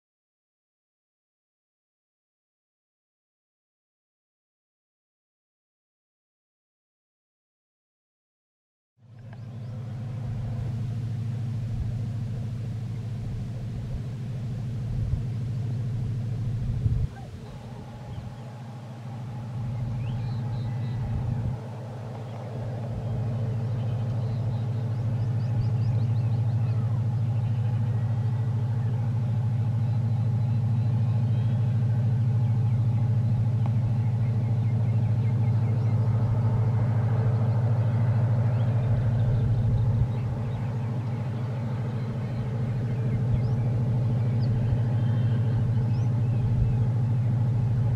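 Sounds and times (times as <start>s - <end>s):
diesel locomotive engine droning: 9.0s - 47.9s.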